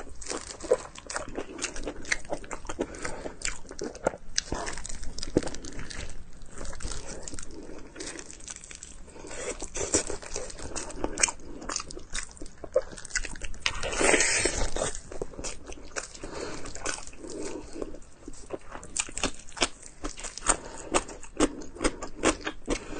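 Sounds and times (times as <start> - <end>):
person chewing: 0.0 - 22.9.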